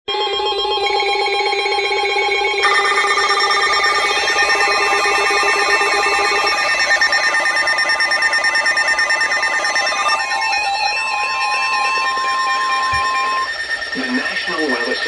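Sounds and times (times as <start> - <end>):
layered electronic alarm tones: 0.1 - 15.0
steady alert tone: 0.1 - 15.0
fast warbling beeps: 0.2 - 15.0.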